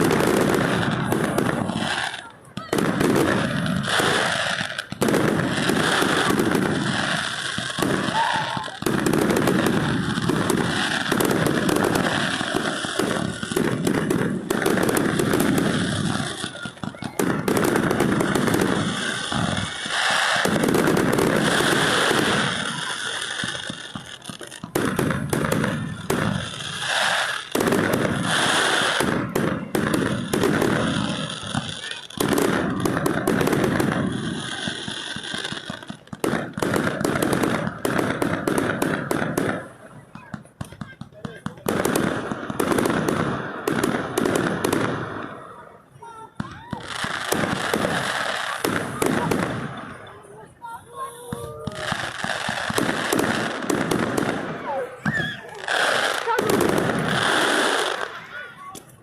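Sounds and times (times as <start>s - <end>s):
fireworks bangs and crackling: 0.0s - 59.0s
voices: 0.0s - 59.0s.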